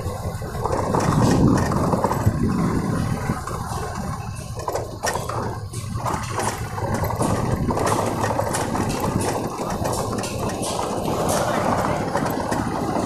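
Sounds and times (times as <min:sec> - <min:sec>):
motorcycle engine running: 0:00.0 - 0:13.0
clicks and rattles: 0:00.5 - 0:02.7, 0:03.4 - 0:13.0.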